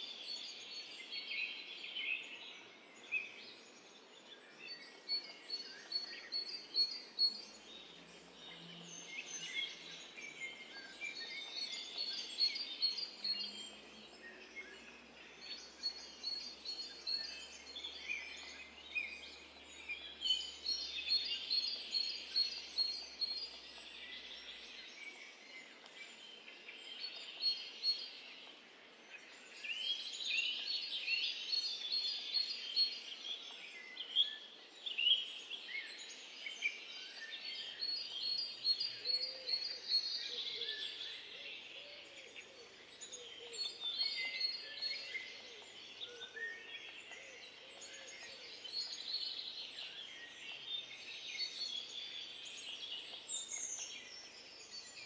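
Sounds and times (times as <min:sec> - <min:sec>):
birds chirping and singing: 0:00.1 - 0:55.0.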